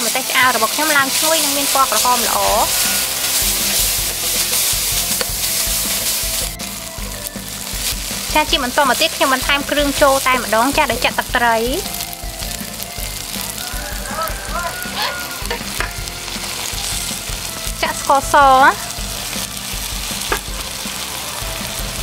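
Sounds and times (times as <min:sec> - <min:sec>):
metal spatula stirring: 0:00.0 - 0:21.9
background music: 0:00.0 - 0:22.0
garlic sizzling in hot oil: 0:00.0 - 0:22.0.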